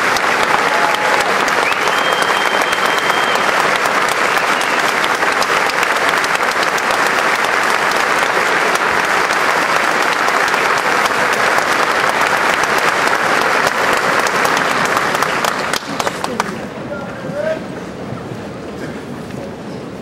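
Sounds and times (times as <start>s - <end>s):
large audience applauding: 0.0s - 16.8s.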